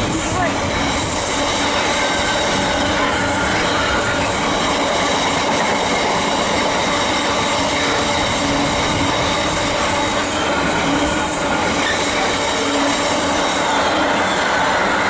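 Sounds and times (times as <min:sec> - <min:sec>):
steel wheels running on rails: 0:00.0 - 0:15.0.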